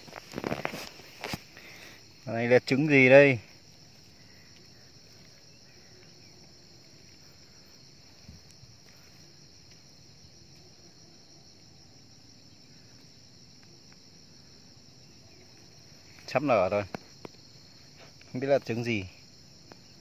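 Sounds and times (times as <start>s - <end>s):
insects chirping in grass: 0.0s - 20.0s.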